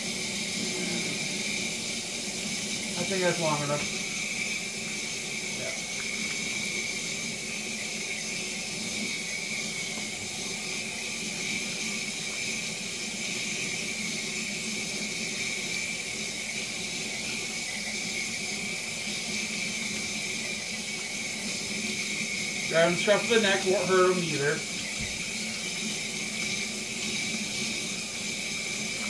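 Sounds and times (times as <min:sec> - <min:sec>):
faucet running into steel sink: 0:00.0 - 0:29.0.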